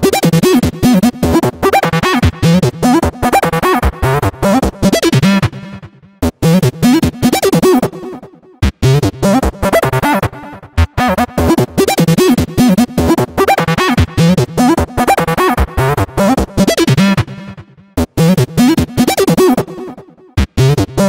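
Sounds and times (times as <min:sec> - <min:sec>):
electronic music with choppy beat: 0:00.0 - 0:21.0.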